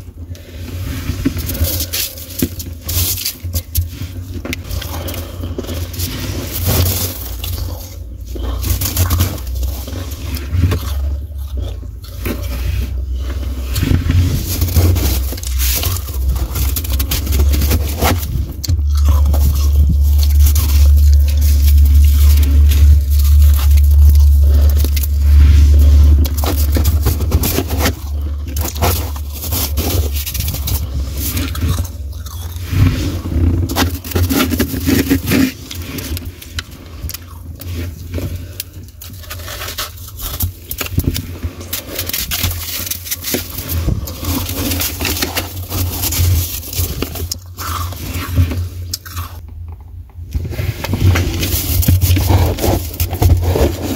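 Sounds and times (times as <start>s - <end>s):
frost crunching in a freezer: 0.0s - 53.9s
low rumble: 0.0s - 53.9s.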